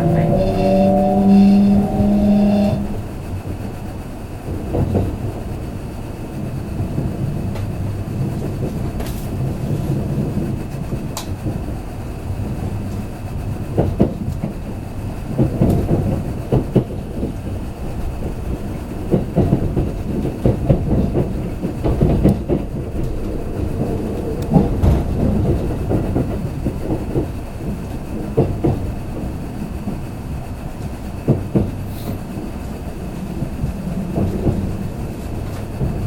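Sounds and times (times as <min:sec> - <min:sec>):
train interior rumble: 0:00.0 - 0:36.0
wheels clacking over rail joints: 0:00.0 - 0:36.0.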